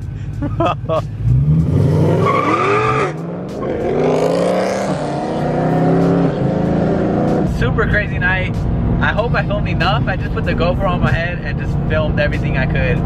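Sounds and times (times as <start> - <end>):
sports car engine accelerating: 0.2 - 13.0.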